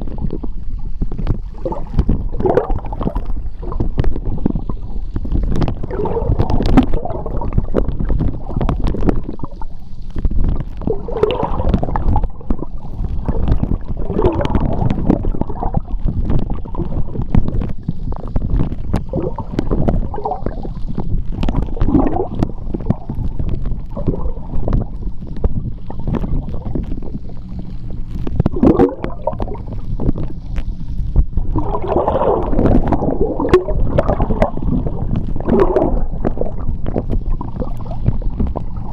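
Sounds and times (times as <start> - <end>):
gurgling bubbles: 0.0 - 38.9
underwater sea rumble: 0.0 - 38.9.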